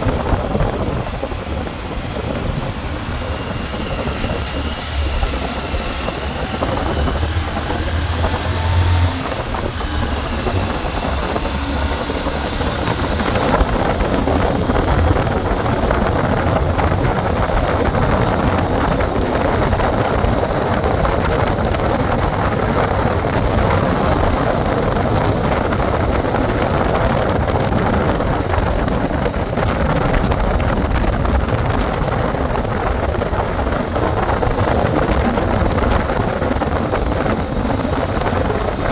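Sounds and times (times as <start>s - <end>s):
low rumble: 0.0s - 38.9s
wind and road noise: 0.0s - 38.9s.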